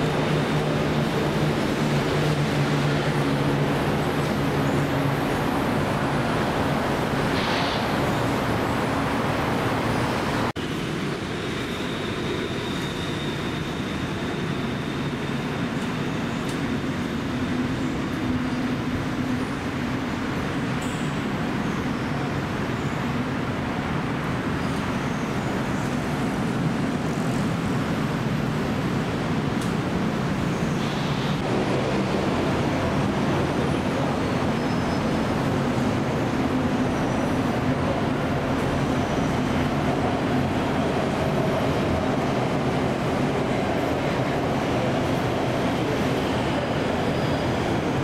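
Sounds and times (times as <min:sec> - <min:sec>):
city traffic rumble: 0:00.0 - 0:48.0
constant noise: 0:00.0 - 0:48.0.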